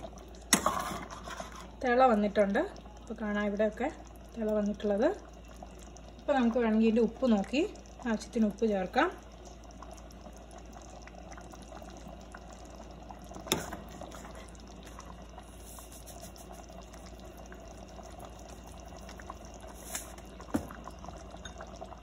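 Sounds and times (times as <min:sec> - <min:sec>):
stew bubbling in a pot: 0:00.0 - 0:22.0.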